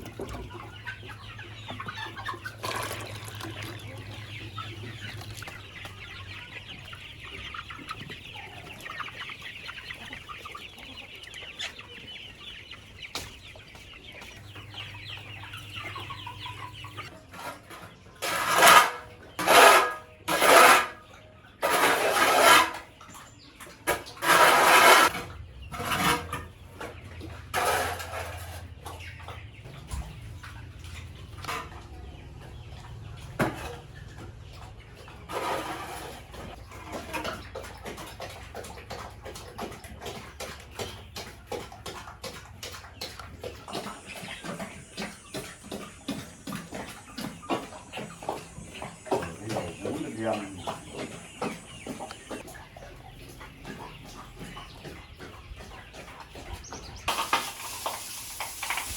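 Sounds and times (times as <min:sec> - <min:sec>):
chickens clucking softly: 0:00.0 - 0:58.9.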